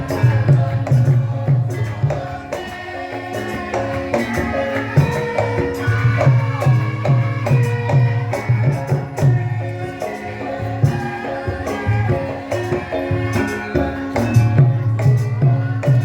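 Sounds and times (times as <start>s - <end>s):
light jingling percussion: 0.0s - 16.0s.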